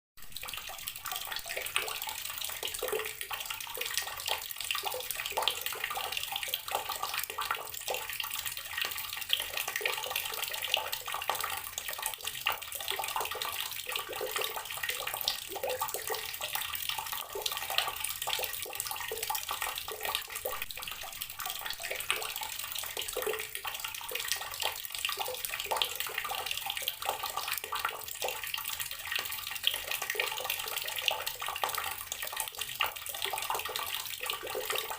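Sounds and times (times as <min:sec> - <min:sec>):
tap water running into container: 0:00.2 - 0:34.9.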